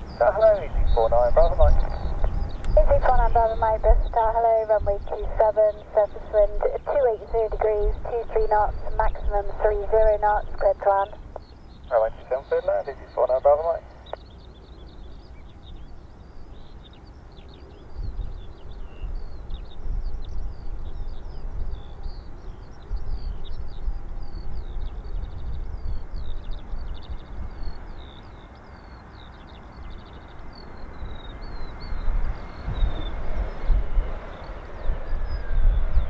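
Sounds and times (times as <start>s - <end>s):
wind buffeting microphone: 0.0s - 14.0s, 14.6s - 28.7s, 29.3s - 36.0s
jet engines of landing plane: 0.0s - 36.0s
small birds chirping: 0.0s - 36.0s.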